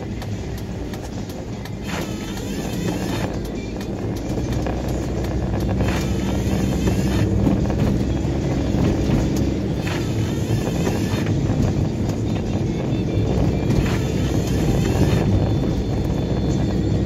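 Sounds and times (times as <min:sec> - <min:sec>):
tyres on slushy road: 0:00.0 - 0:15.4
car engine drone: 0:00.0 - 0:17.0.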